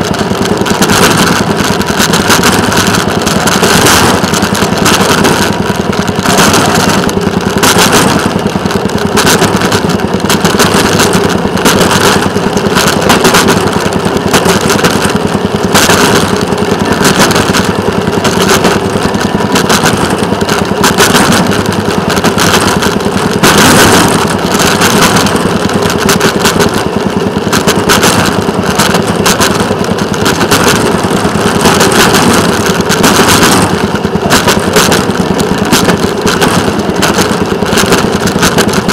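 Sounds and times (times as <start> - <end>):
small rail motorcar engine running: 0.0 - 38.9
steady rushing noise: 0.0 - 38.9.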